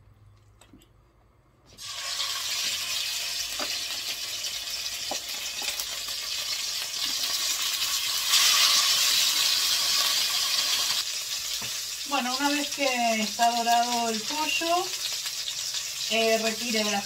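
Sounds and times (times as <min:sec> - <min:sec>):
chicken sizzling in hot oil: 0:01.7 - 0:17.0.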